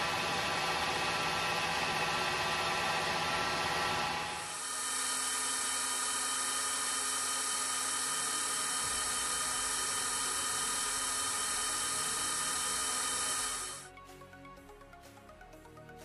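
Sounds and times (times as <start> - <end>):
milling machine spindle whine: 0.0 - 13.9.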